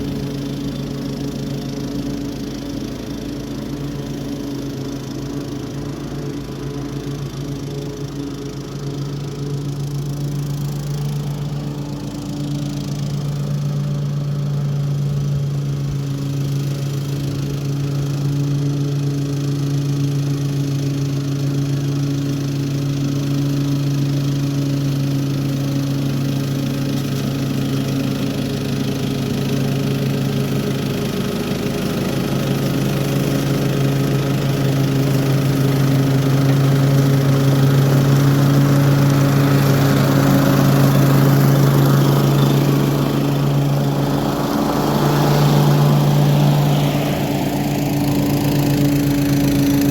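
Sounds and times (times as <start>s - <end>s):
lawn mower engine humming: 0.0s - 49.9s.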